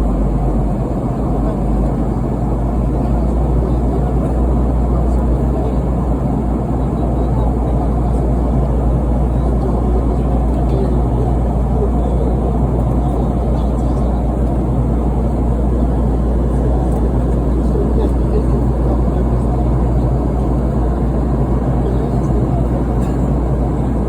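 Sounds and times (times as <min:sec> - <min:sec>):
airflow over fuselage: 0:00.0 - 0:24.0
airliner cabin engine drone: 0:00.0 - 0:24.0.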